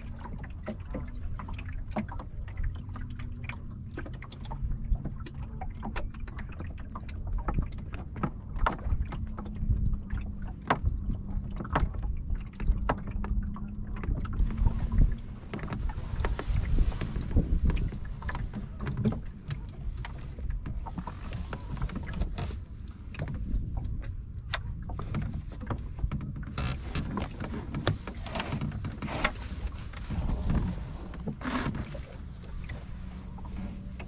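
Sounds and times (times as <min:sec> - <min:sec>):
water sloshing along hull: 0:00.0 - 0:34.0
wind rumble on microphone: 0:00.0 - 0:34.0.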